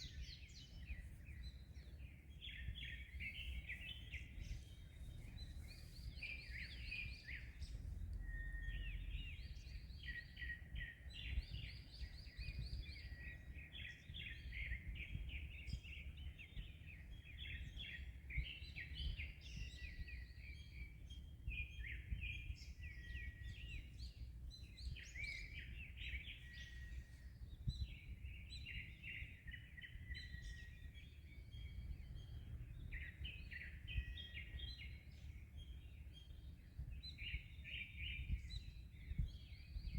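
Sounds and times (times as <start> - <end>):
small birds chirping: 0.0 - 39.9
wind: 0.0 - 39.9.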